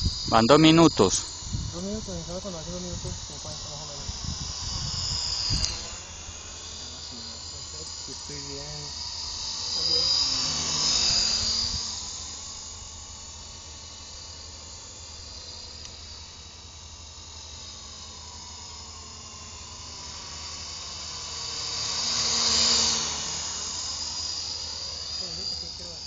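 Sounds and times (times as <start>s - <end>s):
model helicopter whining: 0.0s - 26.0s.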